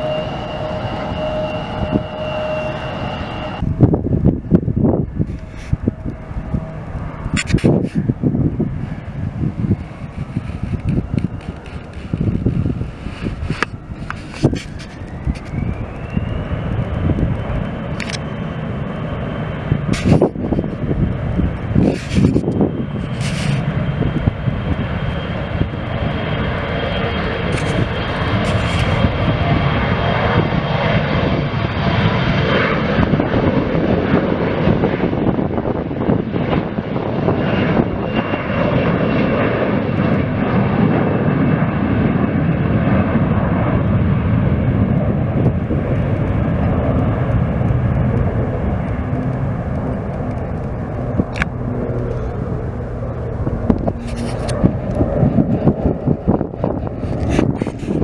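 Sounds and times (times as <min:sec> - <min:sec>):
airplane engines rumbling: 0:00.0 - 0:58.0
high engine whine: 0:00.0 - 0:58.0.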